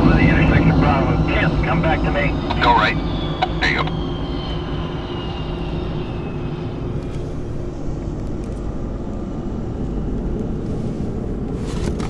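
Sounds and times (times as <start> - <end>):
faint high whine: 0.0 - 10.5
jet engine rumble: 0.0 - 12.0.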